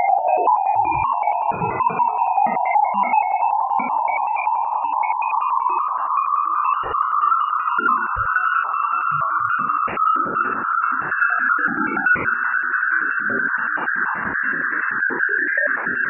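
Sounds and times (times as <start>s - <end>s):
warbling electronic hum: 0.0s - 16.0s.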